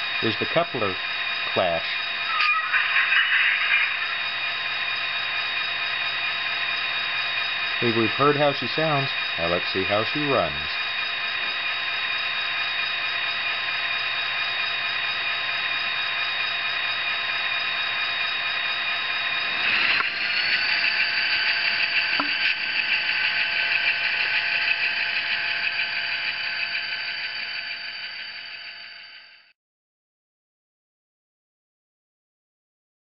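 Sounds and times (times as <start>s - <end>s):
tinny model diesel engine sound: 0.0s - 29.5s.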